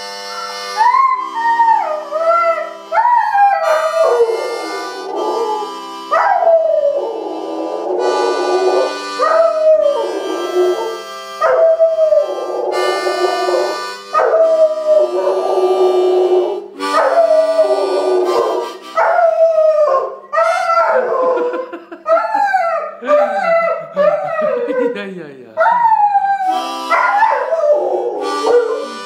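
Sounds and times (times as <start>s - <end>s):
harmonica chords: 0.0s - 29.0s
dog howling: 0.4s - 24.9s, 25.6s - 29.0s.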